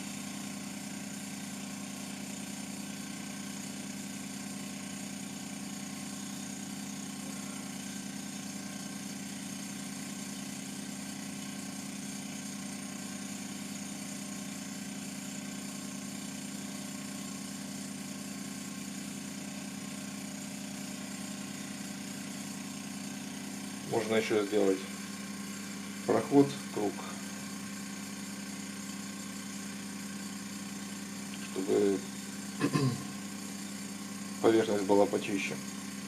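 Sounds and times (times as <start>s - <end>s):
milling machine motor hum: 0.0s - 36.0s.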